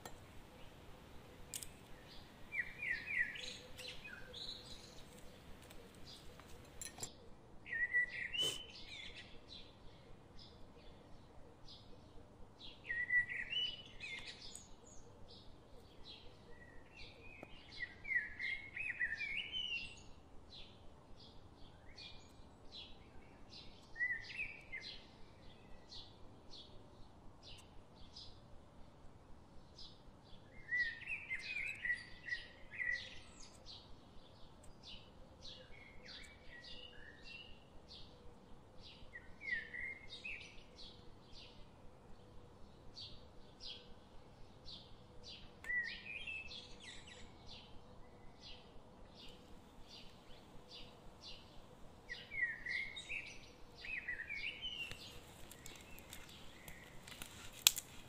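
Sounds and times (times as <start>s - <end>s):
birds chirping: 0.0s - 20.0s, 30.6s - 58.0s.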